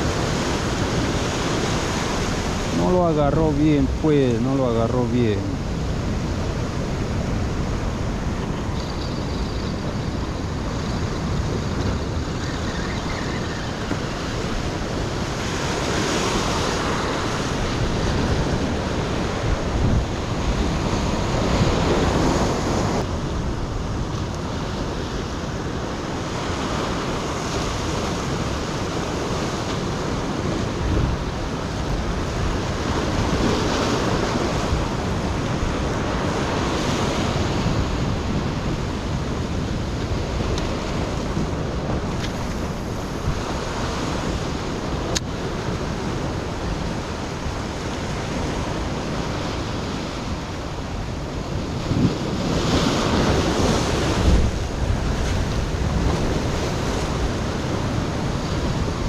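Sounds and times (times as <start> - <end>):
surf breaking on rocky shore: 0.0 - 24.1, 24.7 - 59.0
wind buffeting microphone: 5.1 - 59.0.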